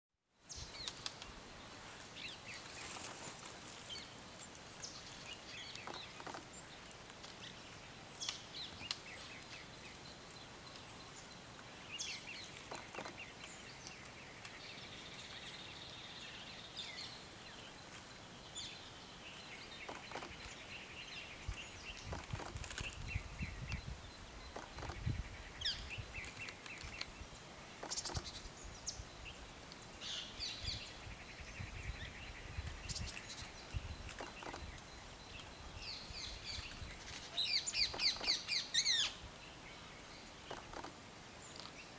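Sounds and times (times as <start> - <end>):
faint steady hiss: 0.3 - 41.9
small birds chirping: 0.4 - 41.9.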